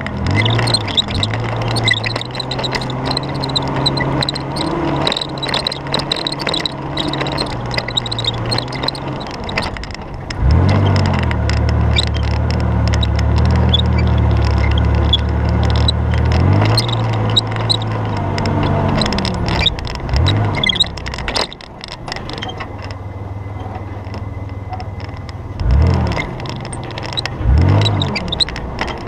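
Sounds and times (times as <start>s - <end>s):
car engine pulling off-road: 0.0s - 29.0s
vehicle knocks and rattles: 0.0s - 29.0s.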